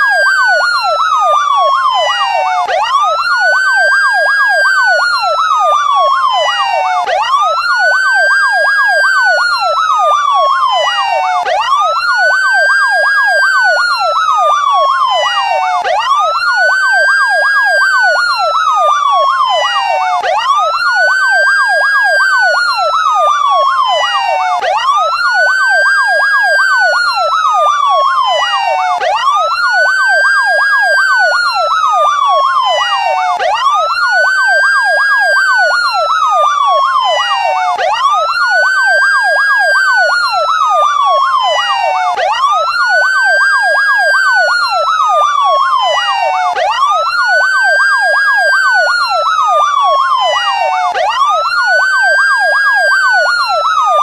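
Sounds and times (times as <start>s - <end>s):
police siren wail: 0.0s - 54.0s
siren yelp: 0.0s - 54.0s.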